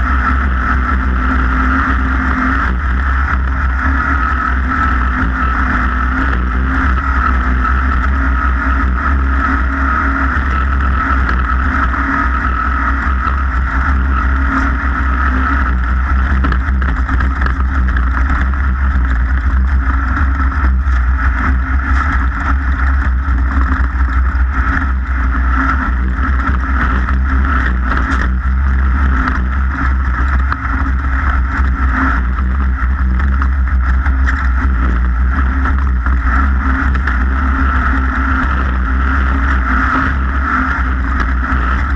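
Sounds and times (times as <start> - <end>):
racing engine at high speed: 0.0 - 41.9
wind rumble on microphone: 0.0 - 41.9.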